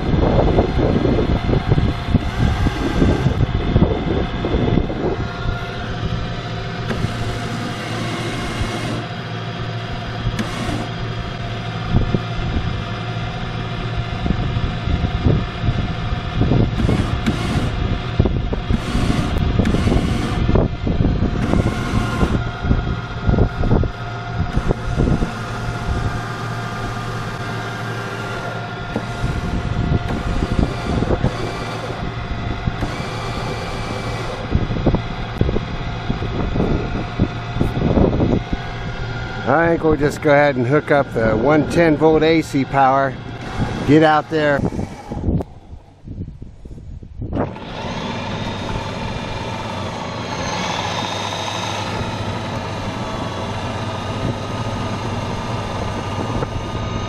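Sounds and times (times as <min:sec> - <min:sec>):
electric boat motor humming: 0:00.0 - 0:57.0
wind buffeting microphone: 0:00.0 - 0:57.0.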